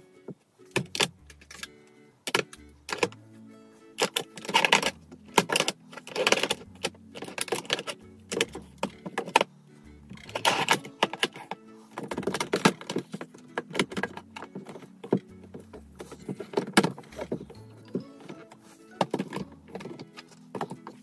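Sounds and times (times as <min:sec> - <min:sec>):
soft background music: 0:00.0 - 0:21.0
makeup compacts clicking and clattering: 0:00.7 - 0:01.7, 0:02.3 - 0:03.2, 0:04.0 - 0:09.5, 0:10.1 - 0:18.4, 0:19.0 - 0:21.0.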